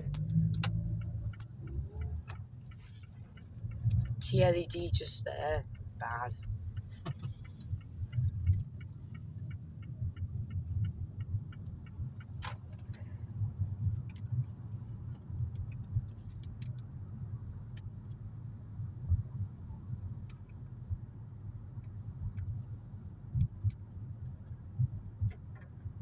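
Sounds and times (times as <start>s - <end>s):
car engine and road rumble: 0.0s - 26.0s
turn indicator ticking: 0.0s - 26.0s.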